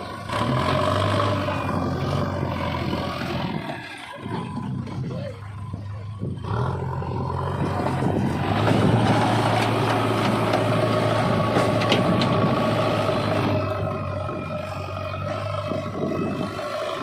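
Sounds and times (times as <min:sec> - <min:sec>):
heavy diesel machinery engine: 0:00.0 - 0:17.0.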